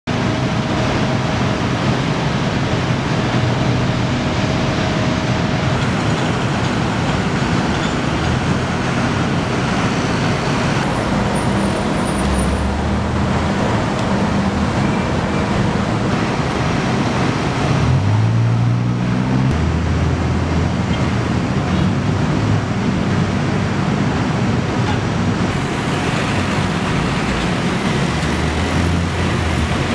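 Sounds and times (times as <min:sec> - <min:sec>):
road traffic: 0:00.0 - 0:29.9
heavy engine pulling away: 0:00.1 - 0:29.9.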